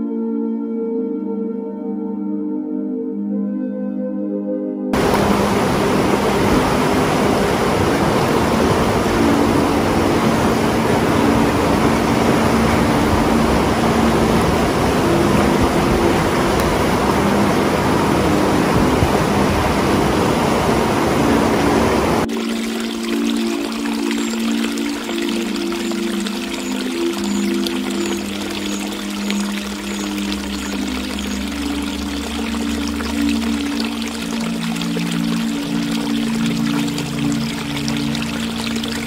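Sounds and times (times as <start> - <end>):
soft ambient music: 0.0 - 39.0
river rapids rushing: 5.0 - 39.0.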